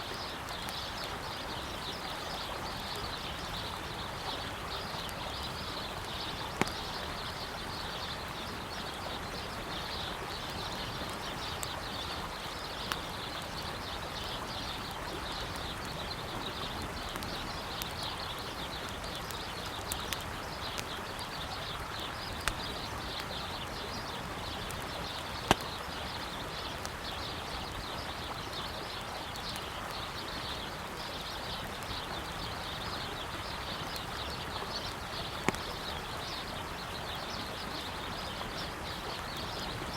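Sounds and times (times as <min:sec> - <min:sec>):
campfire crackling and popping: 0:00.0 - 0:39.9
flowing river: 0:00.0 - 0:39.9.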